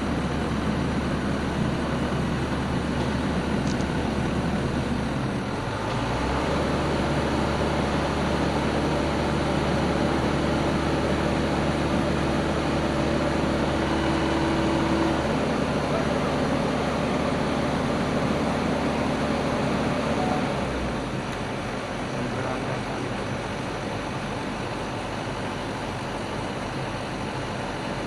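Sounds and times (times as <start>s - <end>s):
diesel engine running: 0.0s - 28.0s
steady whine: 0.0s - 28.0s.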